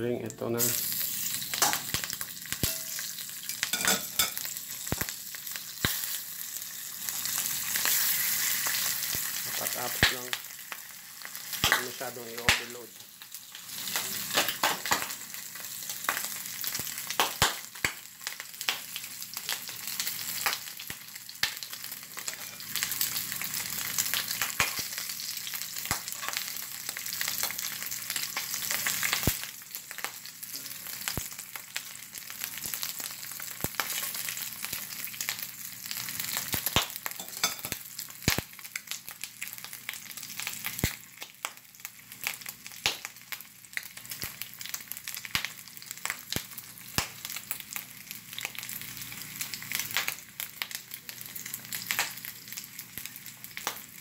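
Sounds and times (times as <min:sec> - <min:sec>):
oil popping and crackling: 0:00.6 - 0:06.3, 0:07.0 - 0:10.7, 0:11.5 - 0:41.6, 0:42.2 - 0:54.0
meat sizzling in oil: 0:00.6 - 0:54.0.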